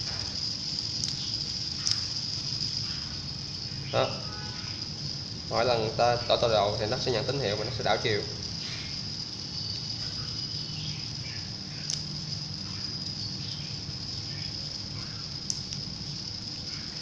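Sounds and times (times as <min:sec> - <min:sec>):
small gear motor whining: 0:00.0 - 0:17.0.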